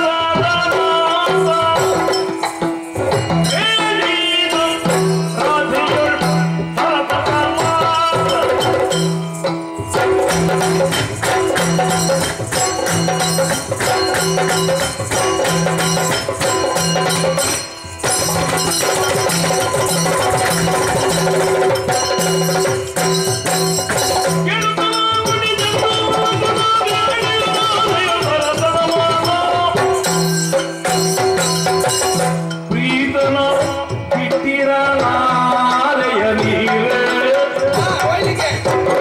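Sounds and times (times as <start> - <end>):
drums in brisk pattern: 0.0 - 39.0
jingling bells: 0.3 - 6.9, 7.6 - 34.3.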